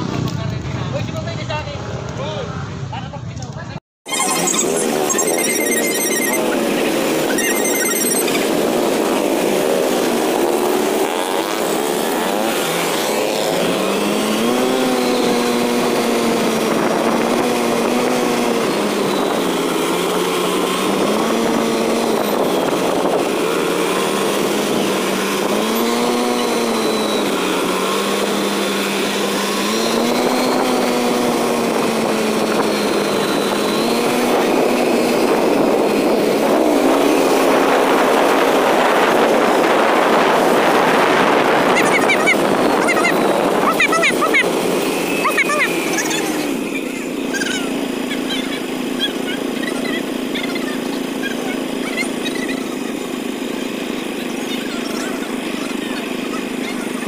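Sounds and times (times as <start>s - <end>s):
motorcycle engine running: 4.5s - 57.0s.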